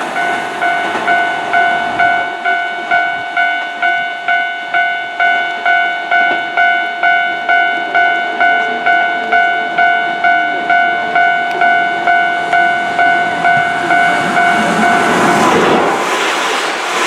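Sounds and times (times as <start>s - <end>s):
level-crossing warning bell: 0.0s - 17.0s
train rumble: 0.0s - 17.0s.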